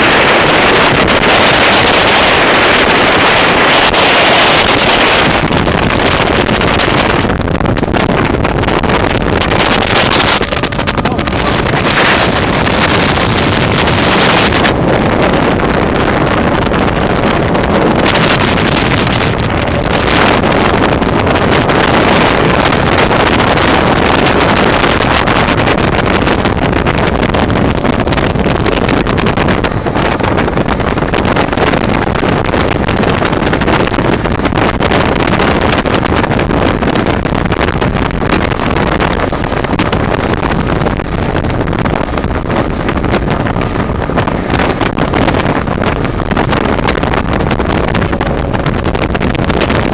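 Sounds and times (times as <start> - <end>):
motorboat engine and hull rush: 0.0 - 49.9
wind buffeting microphone: 0.0 - 49.9.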